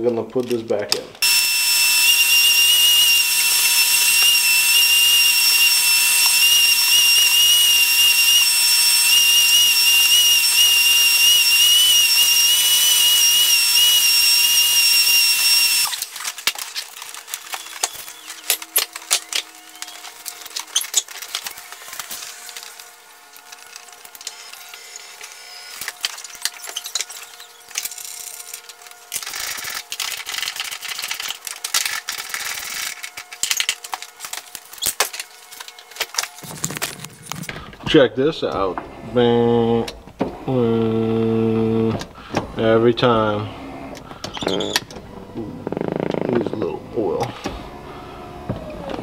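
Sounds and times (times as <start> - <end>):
shop vacuum running: 1.2 - 49.0.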